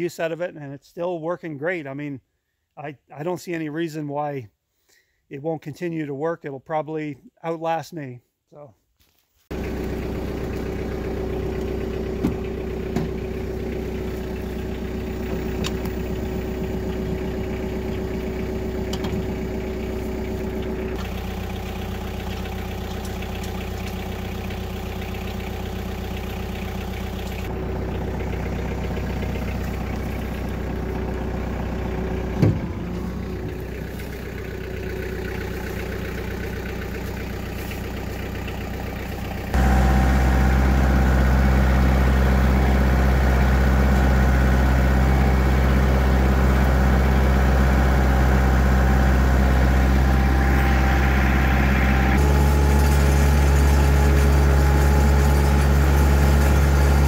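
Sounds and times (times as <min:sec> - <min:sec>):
tractor diesel engine idling: 0:09.5 - 0:57.0.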